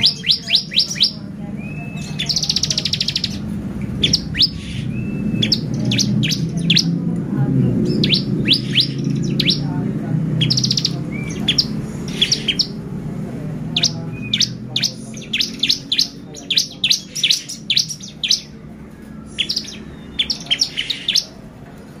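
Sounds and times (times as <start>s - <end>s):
bird singing high chirps: 0.0s - 9.8s, 10.4s - 12.8s, 13.7s - 18.6s, 19.2s - 21.4s.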